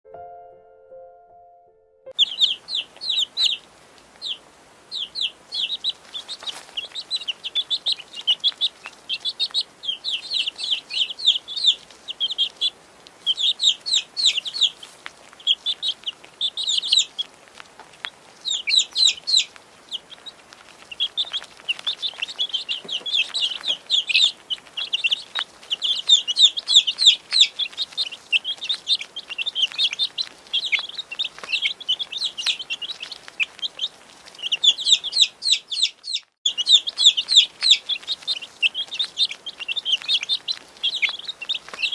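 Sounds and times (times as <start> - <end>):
baby chicks peeping: 2.1 - 41.9.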